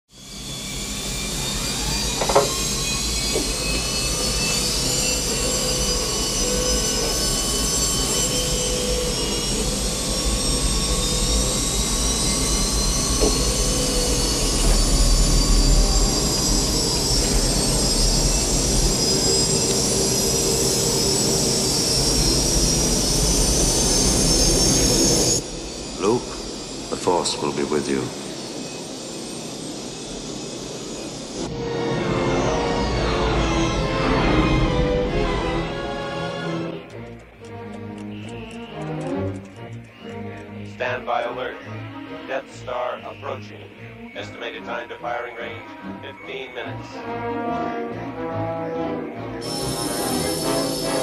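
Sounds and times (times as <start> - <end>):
jet engines whining: 0.1 - 51.0
low jet engine rumble: 0.2 - 51.0.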